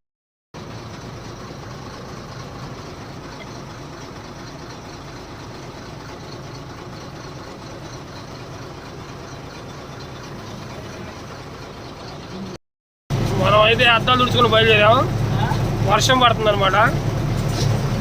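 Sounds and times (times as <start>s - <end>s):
truck diesel engine running: 0.6s - 18.0s.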